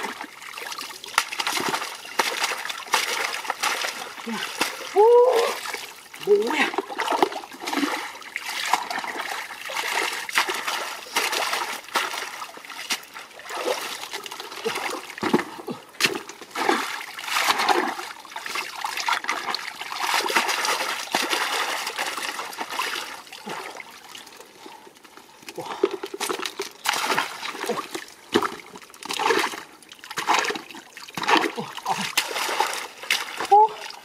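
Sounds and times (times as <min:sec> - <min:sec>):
hands splashing in muddy water: 0:00.0 - 0:23.8, 0:25.6 - 0:34.0.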